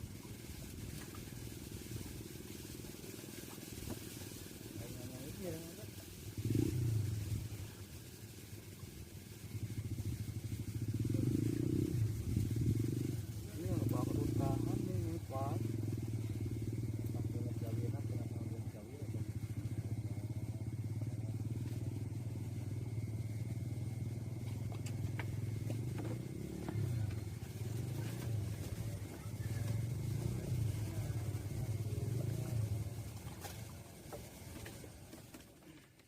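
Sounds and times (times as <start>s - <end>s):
small engine running: 0.0s - 36.0s.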